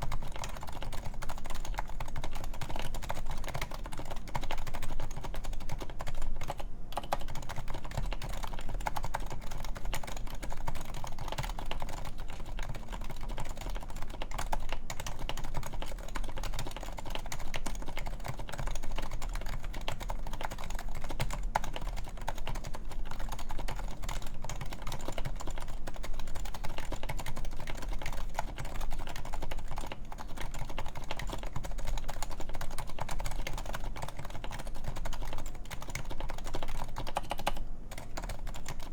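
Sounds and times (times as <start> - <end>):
fast typing on a keyboard: 0.0 - 38.9.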